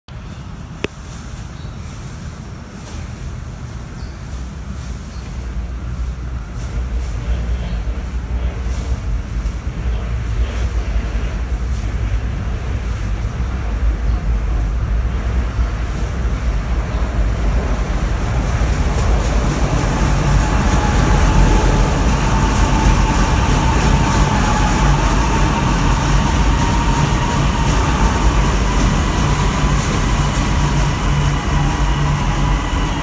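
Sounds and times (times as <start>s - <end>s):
train wheels rumbling on rail: 0.1s - 33.0s
train motor whine: 5.6s - 33.0s.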